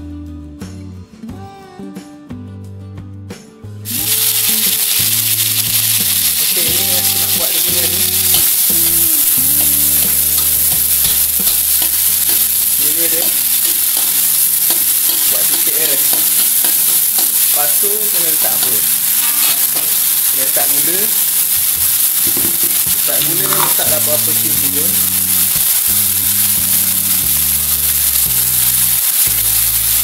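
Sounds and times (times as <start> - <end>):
guitar music: 0.0 - 30.0
paste sizzling in hot oil: 3.9 - 30.0
spatula stirring in wok: 4.0 - 30.0.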